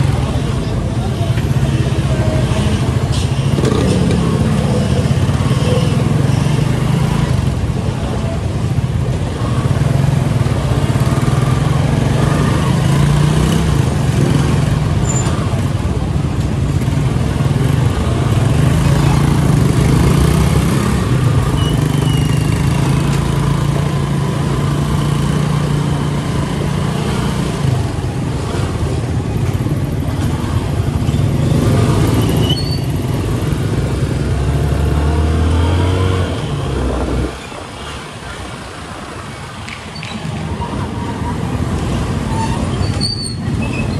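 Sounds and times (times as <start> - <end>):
road noise: 0.0 - 43.9
vehicle engine: 0.0 - 43.9.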